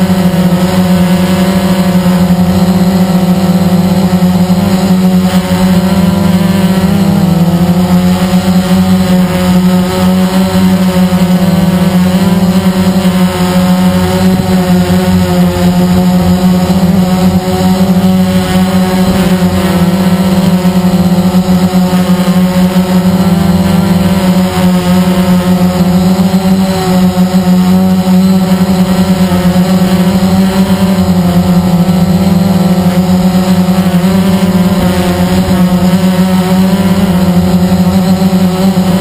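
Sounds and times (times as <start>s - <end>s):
drone propellers buzzing: 0.0s - 39.0s.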